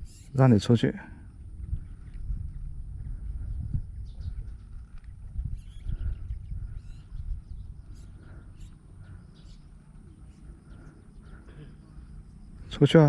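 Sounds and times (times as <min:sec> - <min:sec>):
small birds chirping: 0:00.0 - 0:00.8, 0:01.4 - 0:13.0
wind rumble: 0:00.0 - 0:13.0.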